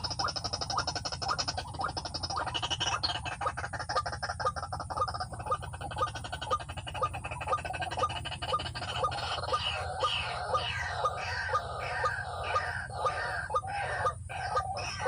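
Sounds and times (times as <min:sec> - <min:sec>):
higher falling bird calls: 0:00.0 - 0:15.0
waterhen calling: 0:00.0 - 0:15.0.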